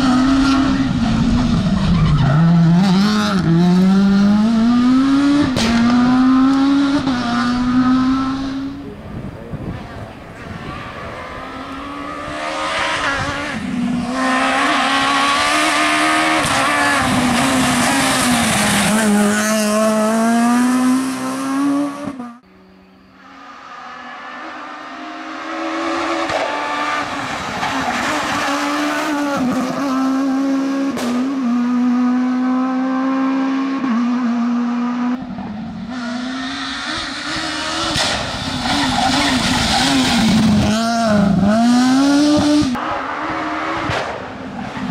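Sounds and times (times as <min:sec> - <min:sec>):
rally car engine revving hard: 0:00.0 - 0:08.8, 0:10.9 - 0:22.4, 0:23.5 - 0:35.3, 0:35.9 - 0:44.9.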